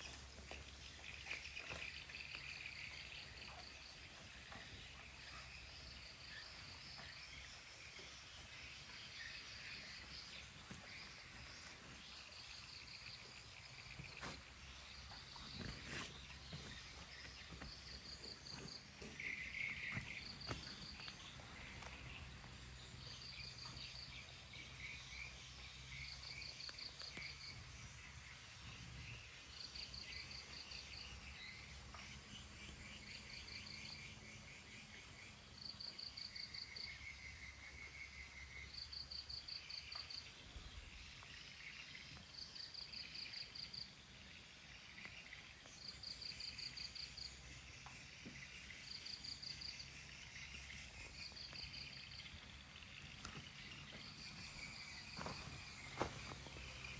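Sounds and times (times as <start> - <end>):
insects chirping: 0.0 - 56.9
low insect trills: 0.0 - 56.9.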